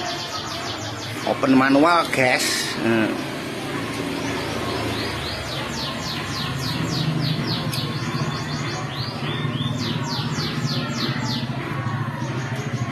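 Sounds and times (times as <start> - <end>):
songbird chirping: 0.0 - 12.9.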